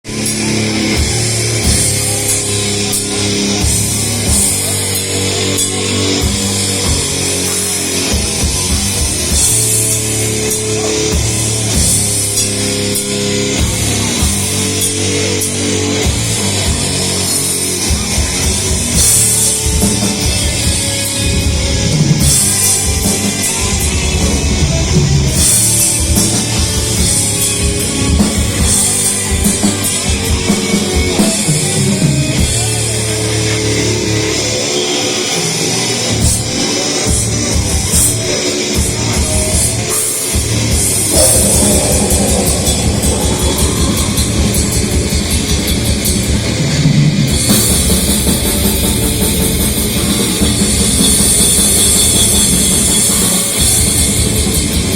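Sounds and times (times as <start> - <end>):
heavy metal band playing: 0.0 - 54.9.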